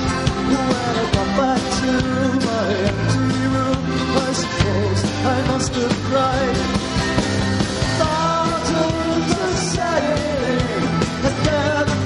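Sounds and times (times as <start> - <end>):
folk-punk band playing: 0.0 - 12.0
steady drum beat: 0.0 - 12.0.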